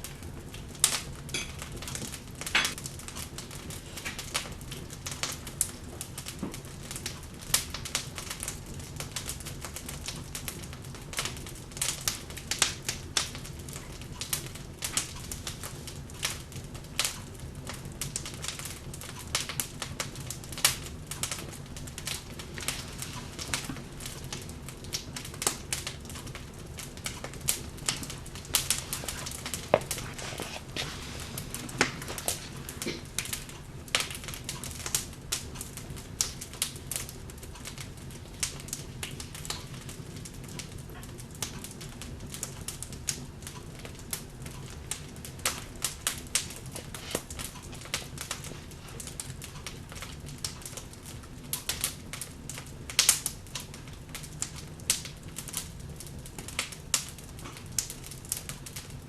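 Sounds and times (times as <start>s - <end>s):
wood logs crackling in fireplace: 0.0s - 59.0s.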